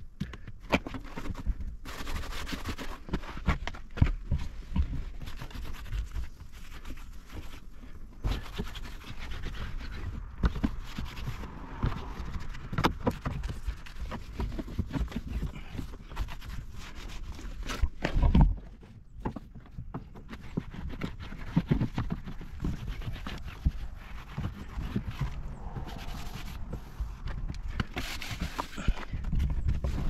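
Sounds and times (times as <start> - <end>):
brushing and wiping: 1.0 - 30.0.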